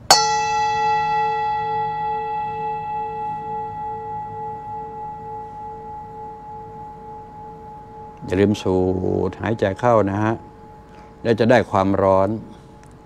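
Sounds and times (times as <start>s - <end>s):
singing bowl ringing: 0.0s - 13.0s.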